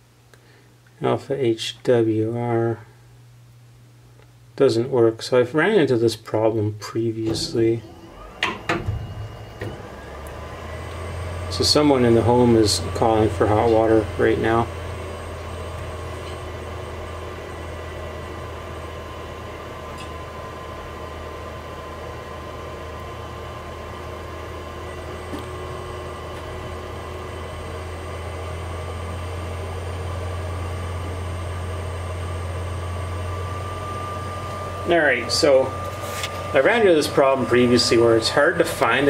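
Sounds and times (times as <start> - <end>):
water heater humming: 0.0 - 39.0.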